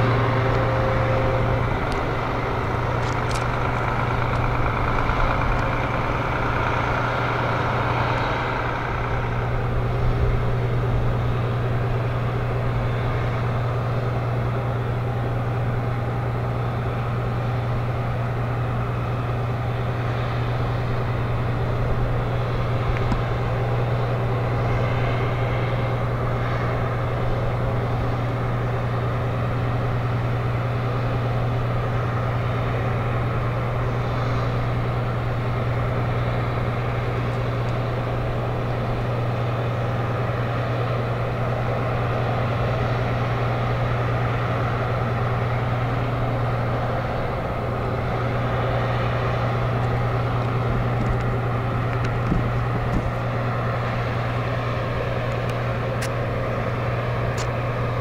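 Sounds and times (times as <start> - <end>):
heavy machinery humming: 0.0 - 58.0.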